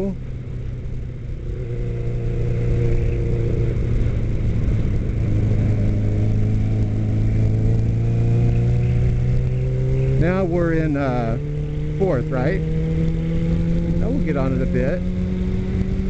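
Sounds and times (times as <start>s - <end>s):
motorcycle engine under throttle: 0.0s - 16.0s.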